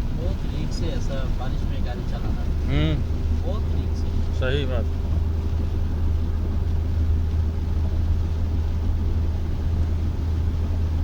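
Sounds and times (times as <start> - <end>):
car rumble inside cabin: 0.0 - 11.0.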